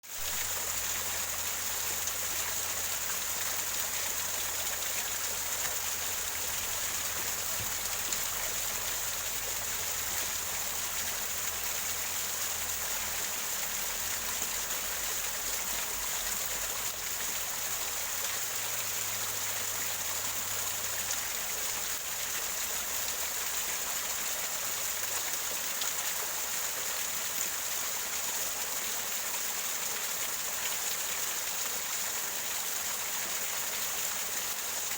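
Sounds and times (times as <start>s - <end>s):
waterfall gurgling over rocks: 0.0s - 34.9s.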